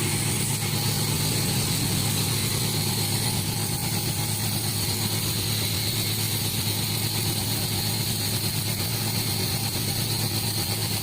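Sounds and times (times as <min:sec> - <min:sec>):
sawmill machinery droning: 0:00.0 - 0:11.0.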